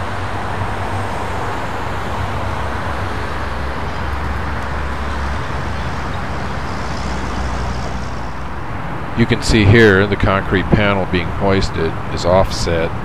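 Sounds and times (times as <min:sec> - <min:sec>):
constant rushing noise: 0:00.0 - 0:13.0
low engine hum: 0:00.0 - 0:13.0.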